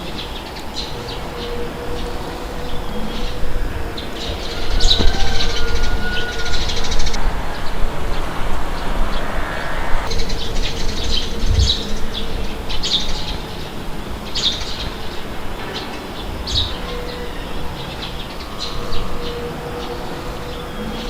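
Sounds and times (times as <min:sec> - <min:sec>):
birds chirping: 0:00.0 - 0:21.0
wind blowing: 0:00.0 - 0:21.0.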